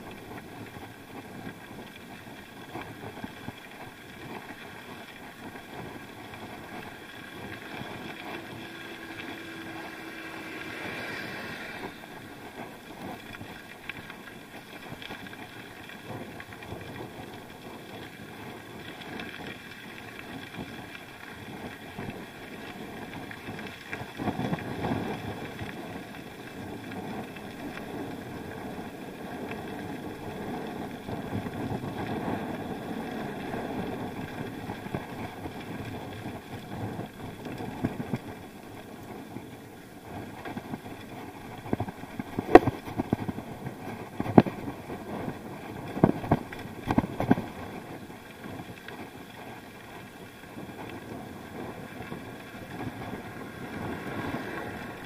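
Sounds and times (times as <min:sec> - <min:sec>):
rumbling road noise: 0:00.0 - 0:55.0
wind rushing over microphone: 0:00.0 - 0:55.0.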